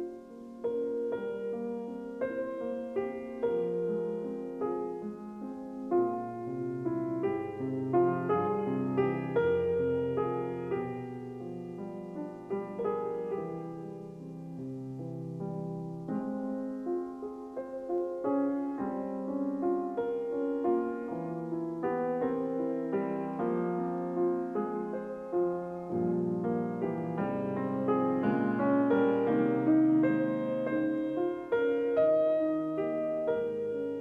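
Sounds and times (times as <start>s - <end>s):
gentle solo piano music: 0.0s - 34.0s.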